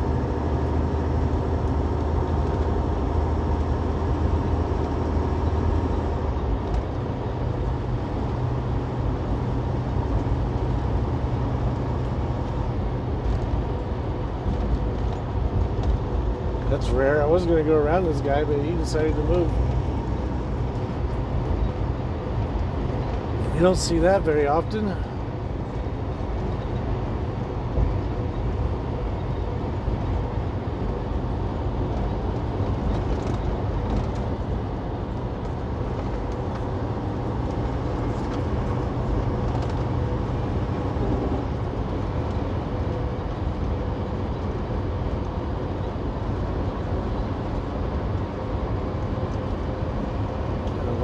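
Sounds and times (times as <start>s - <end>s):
truck engine drone and road rumble: 0.0s - 51.0s.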